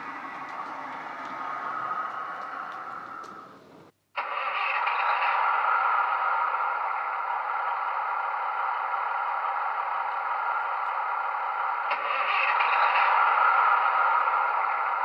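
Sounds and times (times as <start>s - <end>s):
hissing rattle: 0.0s - 3.9s, 4.5s - 15.0s
diesel engine idling through small speaker: 0.0s - 15.0s.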